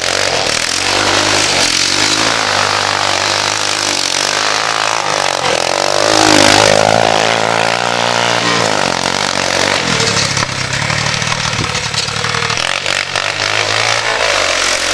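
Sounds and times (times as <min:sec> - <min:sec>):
three-wheeler engine revving: 0:00.0 - 0:14.9.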